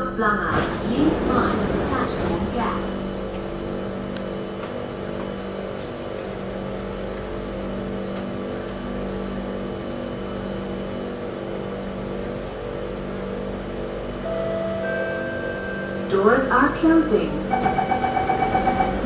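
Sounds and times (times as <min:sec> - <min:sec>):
train equipment humming: 0:00.0 - 0:19.0.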